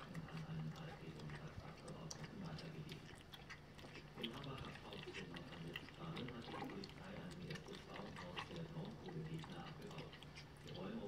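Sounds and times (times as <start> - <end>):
puppies lapping from a bowl: 0.0 - 11.0.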